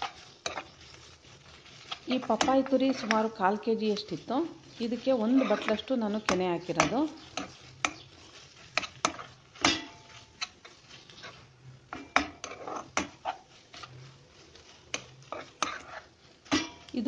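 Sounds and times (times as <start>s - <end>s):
spatula scraping a pan: 0.0s - 17.0s.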